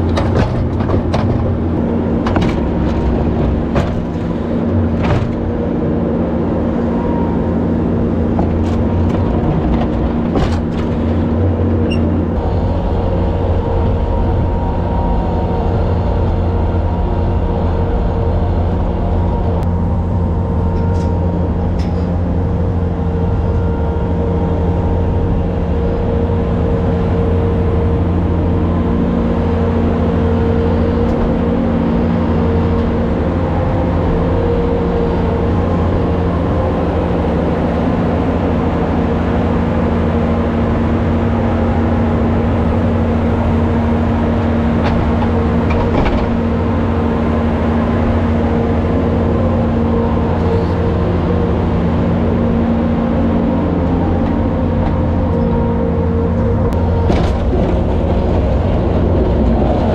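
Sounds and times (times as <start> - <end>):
machine engine running: 0.0 - 59.9.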